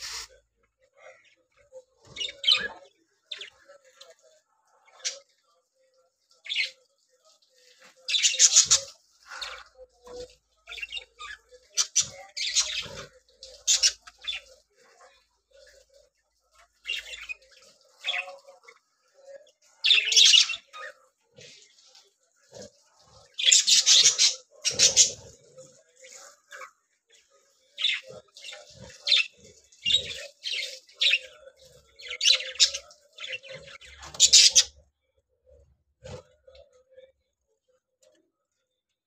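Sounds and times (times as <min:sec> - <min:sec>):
budgerigars chirping and squawking: 0:00.0 - 0:05.5, 0:06.4 - 0:34.8.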